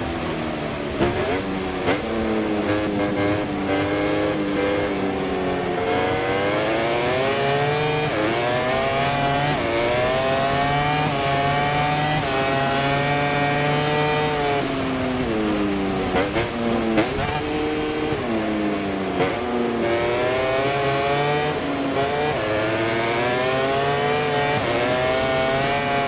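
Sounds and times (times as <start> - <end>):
racing motorcycle engine accelerating: 0.0 - 26.0.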